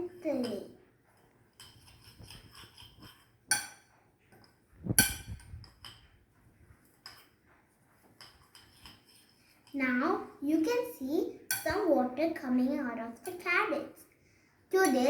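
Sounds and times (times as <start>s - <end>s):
spoon scraping a mixing bowl: 0.0s - 12.2s.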